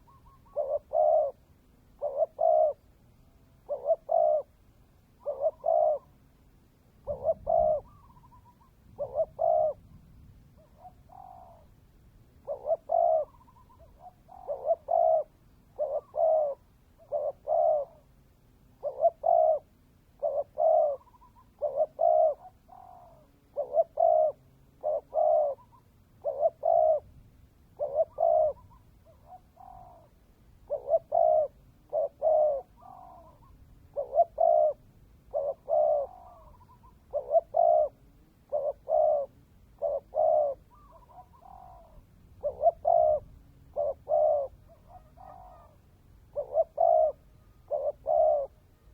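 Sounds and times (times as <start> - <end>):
dove cooing: 0.0 - 6.3, 7.0 - 11.8, 12.4 - 48.9.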